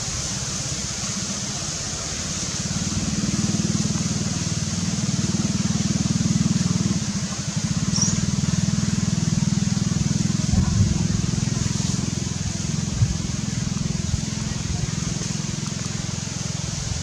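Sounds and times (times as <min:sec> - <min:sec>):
small engine humming: 0:00.0 - 0:17.0.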